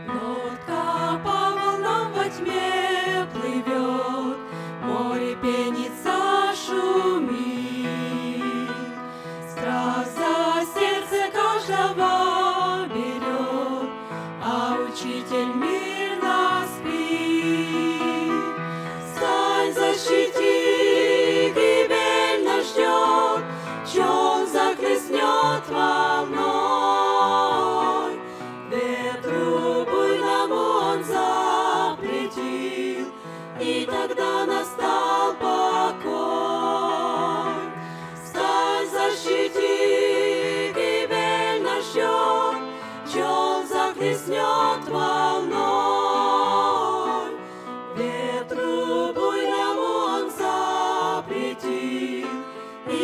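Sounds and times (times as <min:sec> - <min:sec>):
women singing a hymn in harmony: 0:00.0 - 0:53.0.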